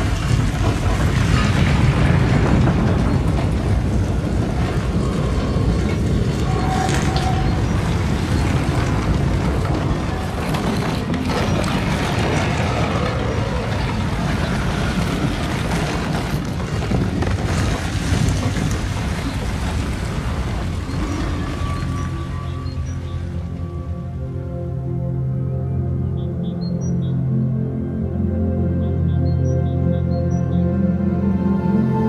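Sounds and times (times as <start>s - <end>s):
deep rumble: 0.0s - 32.0s.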